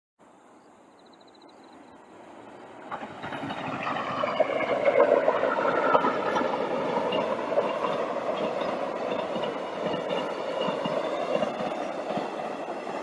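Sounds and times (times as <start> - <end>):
train wheels rumbling on rail: 2.2 - 13.0.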